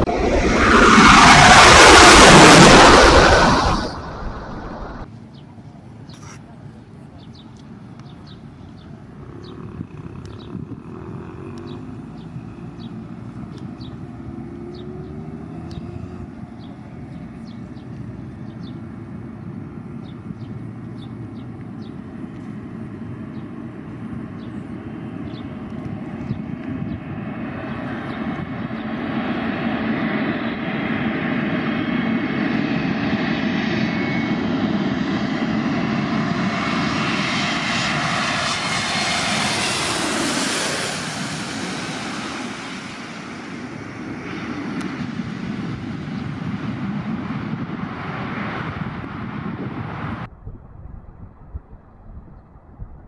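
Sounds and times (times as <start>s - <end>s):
jet engine drone: 0.0s - 7.1s, 7.7s - 53.0s.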